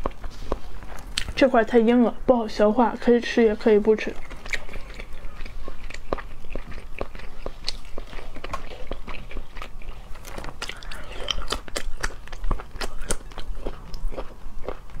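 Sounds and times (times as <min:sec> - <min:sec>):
person chewing with wet smacks: 0:00.0 - 0:01.5, 0:03.6 - 0:15.0.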